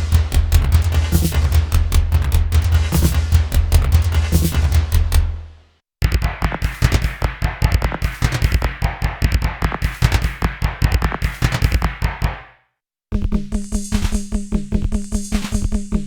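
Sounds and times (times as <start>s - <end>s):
sharp crackly drum synth hits: 0.0s - 5.3s, 6.0s - 12.5s, 13.6s - 15.9s.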